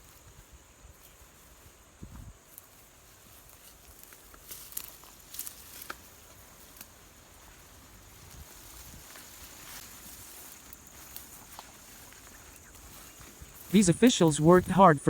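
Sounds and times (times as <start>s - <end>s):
faint outdoor rustling: 0.0s - 15.0s.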